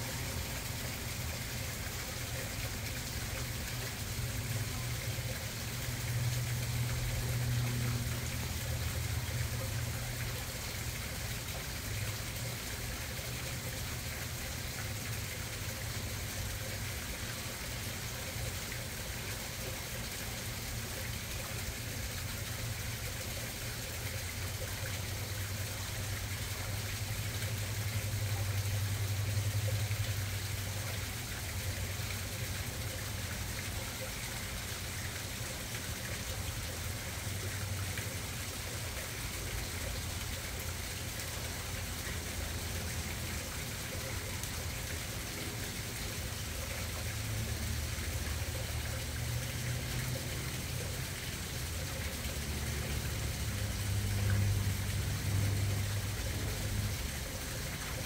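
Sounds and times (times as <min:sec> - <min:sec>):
pond waterfall splashing: 0:00.0 - 0:58.0.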